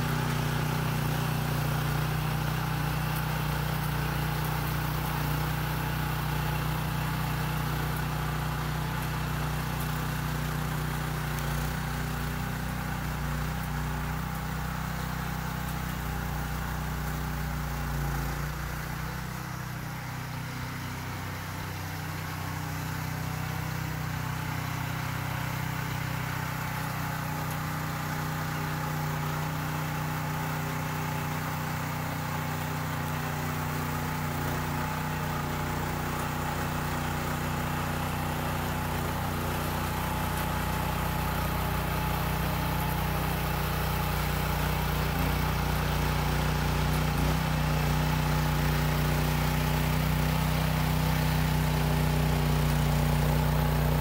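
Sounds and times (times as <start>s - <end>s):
rototiller engine running: 0.0s - 54.0s.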